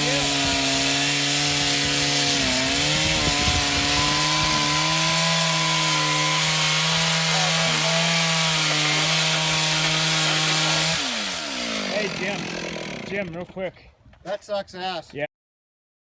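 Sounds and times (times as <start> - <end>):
chainsaw cutting: 0.0 - 13.6.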